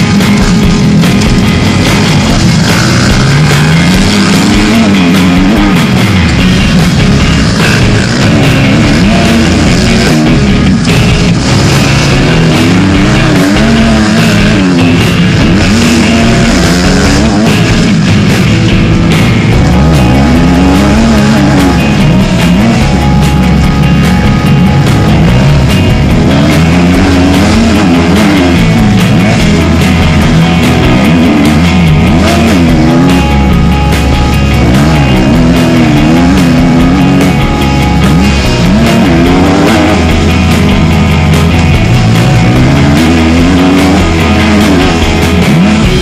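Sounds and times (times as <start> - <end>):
motocross bike engine revving: 0.0 - 46.0
rock music: 0.0 - 46.0.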